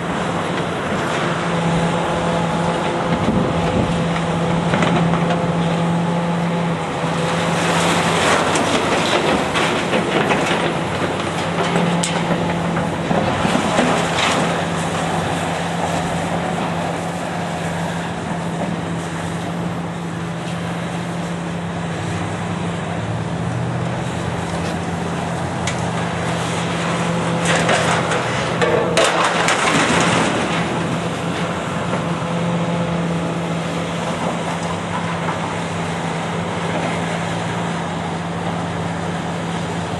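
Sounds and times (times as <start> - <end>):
diesel machine running: 0.0 - 39.9
metal crunching and scraping: 0.0 - 39.9.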